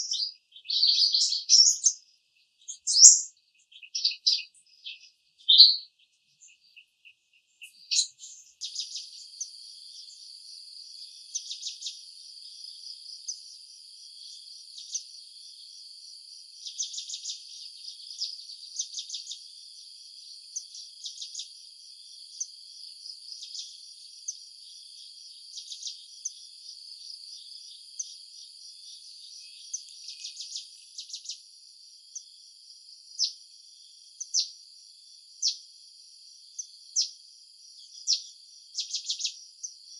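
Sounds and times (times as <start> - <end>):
high-pitched insect chorus: 0.0 - 5.6, 6.3 - 39.9
rapid insect chirping: 0.0 - 39.9.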